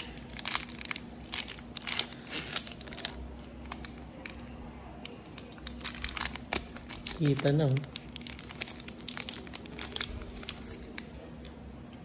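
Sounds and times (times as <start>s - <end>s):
foil wrapper crinkling and tearing: 0.0s - 4.4s, 5.3s - 11.3s.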